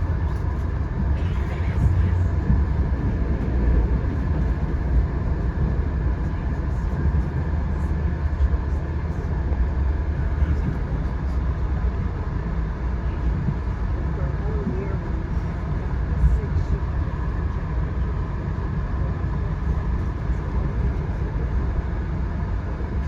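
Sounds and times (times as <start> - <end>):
moving train rumble: 0.0 - 23.0.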